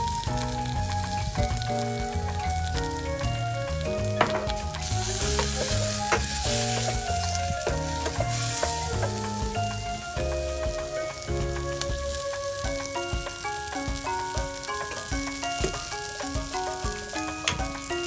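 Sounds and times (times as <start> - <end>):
background music: 0.0 - 18.0
vegetables sizzling in a saucepan: 0.0 - 18.0
wooden spoon knocking: 3.3 - 18.0.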